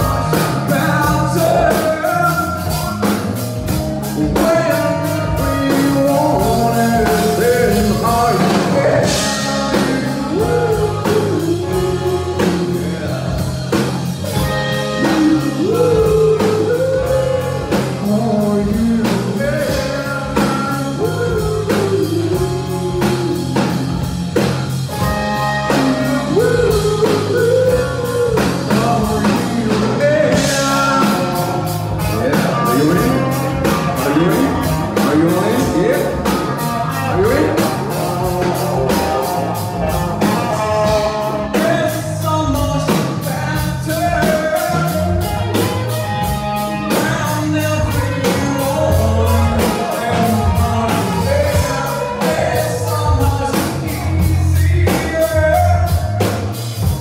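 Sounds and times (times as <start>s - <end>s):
bass guitar: 0.0s - 57.0s
drum kit: 0.0s - 57.0s
electric guitar: 0.0s - 57.0s
man singing lead vocal: 0.0s - 57.0s.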